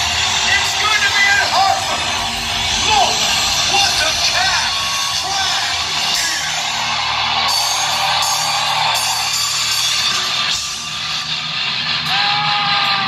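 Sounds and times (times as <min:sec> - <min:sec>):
hard rock band playing live: 0:00.0 - 0:13.0.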